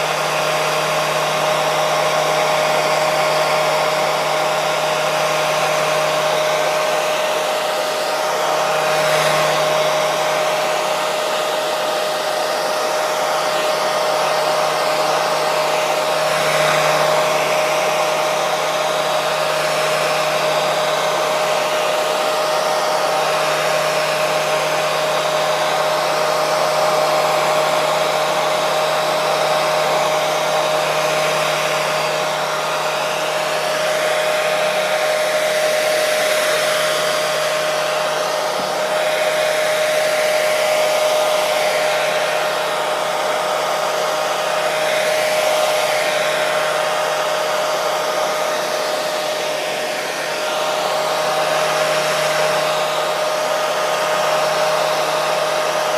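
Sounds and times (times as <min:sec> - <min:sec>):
hair dryer running: 0:00.0 - 0:55.9.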